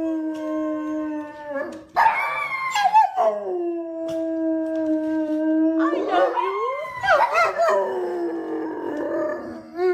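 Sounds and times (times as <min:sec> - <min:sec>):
dog howling: 0:00.0 - 0:09.9.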